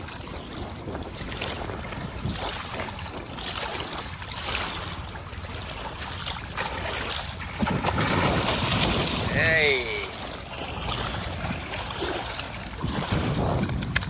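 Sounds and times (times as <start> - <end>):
water rushing: 0.0 - 14.0.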